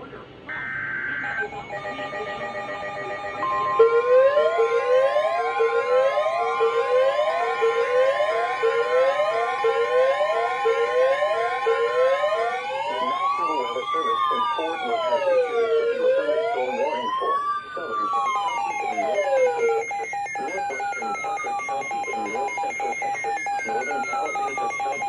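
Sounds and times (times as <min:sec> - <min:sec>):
electronic siren yelping: 0:00.5 - 0:25.0
loud steady high tone: 0:00.5 - 0:25.0
steady alert tones: 0:00.5 - 0:25.0.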